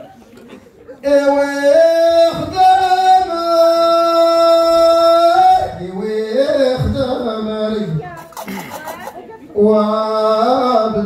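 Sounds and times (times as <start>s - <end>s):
man singing into a microphone: 0.9s - 8.7s, 9.6s - 11.0s.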